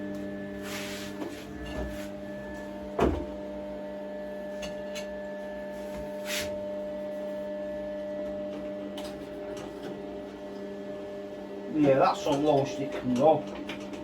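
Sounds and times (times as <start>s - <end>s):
multi-pitched mechanical hum: 0.0s - 14.0s.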